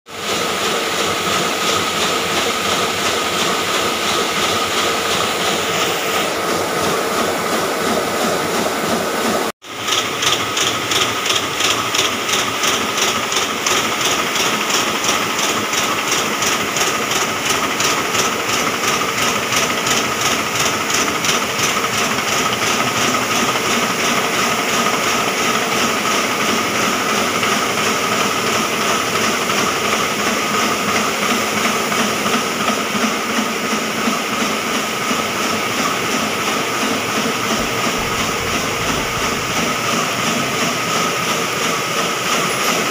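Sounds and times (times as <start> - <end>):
printing press clattering: 0.2 - 42.9.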